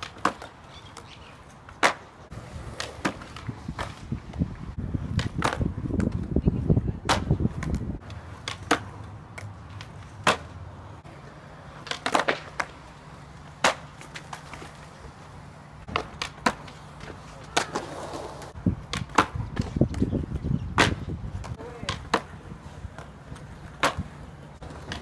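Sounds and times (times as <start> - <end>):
skateboard clacking on concrete: 0.0 - 10.6, 11.6 - 15.1, 15.9 - 20.1, 20.8 - 25.0
skateboard wheels rolling on concrete: 0.0 - 25.0.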